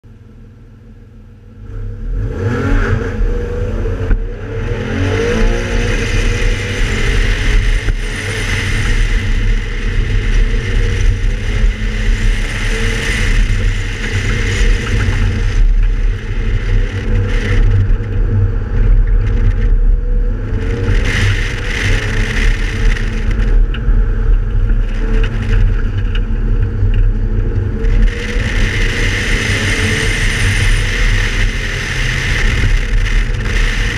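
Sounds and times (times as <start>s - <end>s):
car engine accelerating: 1.3s - 33.9s.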